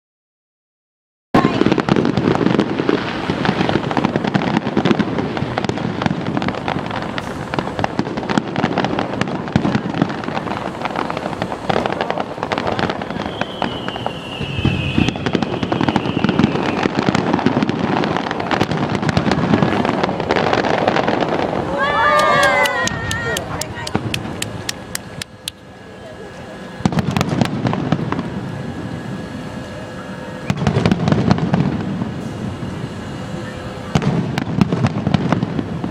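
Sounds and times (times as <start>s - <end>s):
falling firework whistle: 1.4s - 35.9s
fireworks bursting and crackling: 1.4s - 35.9s.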